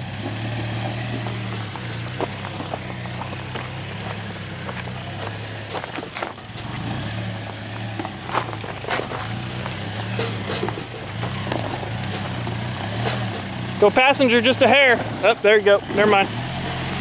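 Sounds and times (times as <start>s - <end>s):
tyres crunching on rocks: 0.0s - 16.8s
truck engine at low revs: 0.0s - 17.0s.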